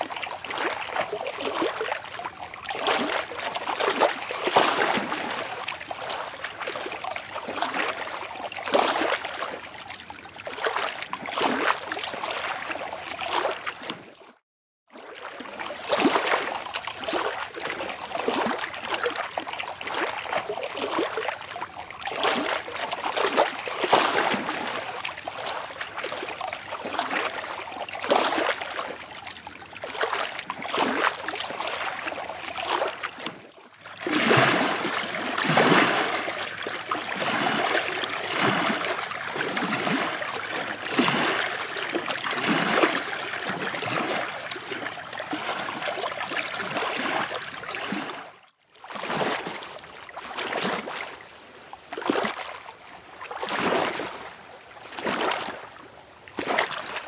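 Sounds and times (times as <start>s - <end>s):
water splashing and lapping: 0.0s - 57.0s.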